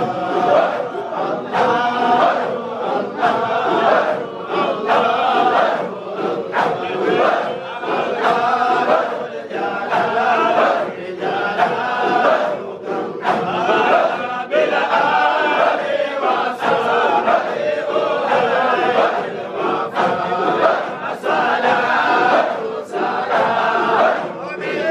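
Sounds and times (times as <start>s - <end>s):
men chanting together: 0.0s - 24.9s.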